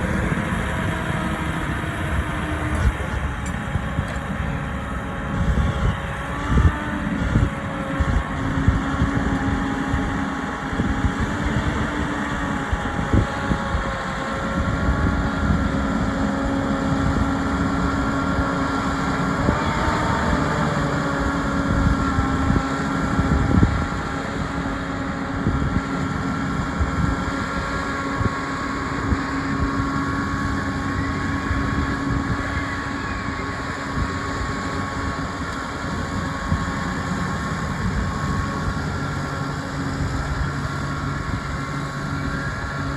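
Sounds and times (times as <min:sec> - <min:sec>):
tractor engine working under load: 0:00.0 - 0:42.9.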